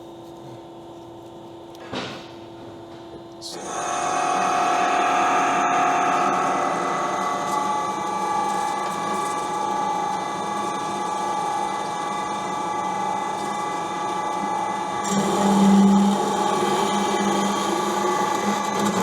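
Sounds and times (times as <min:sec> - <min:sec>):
band saw mechanical whine: 0:03.4 - 0:19.0.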